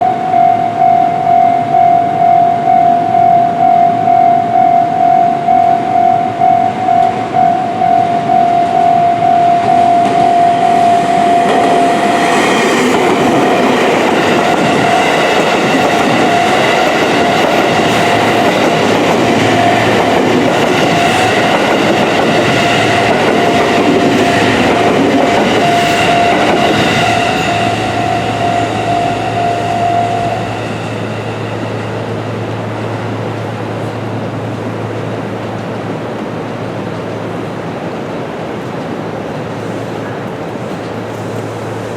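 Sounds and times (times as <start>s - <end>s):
level-crossing alarm ringing: 0.0s - 35.6s
train running past: 0.0s - 41.9s.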